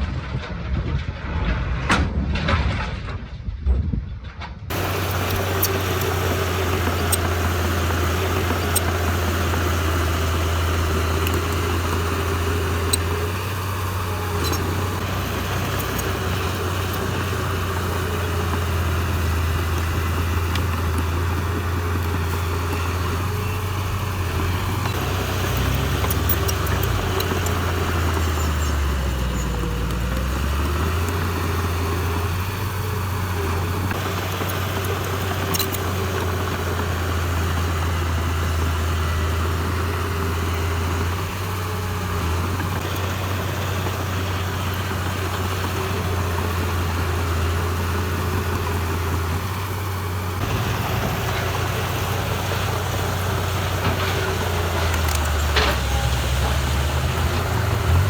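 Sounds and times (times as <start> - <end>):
heavy diesel engine running: 4.7 - 58.0.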